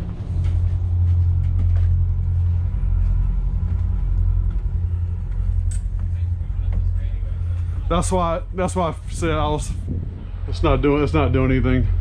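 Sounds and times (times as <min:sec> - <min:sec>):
boat engines idling: 0:00.0 - 0:12.0.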